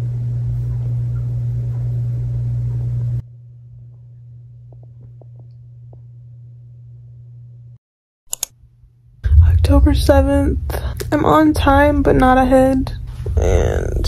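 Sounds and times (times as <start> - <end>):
electrical hum with hiss: 0.0 - 7.8, 9.0 - 14.0.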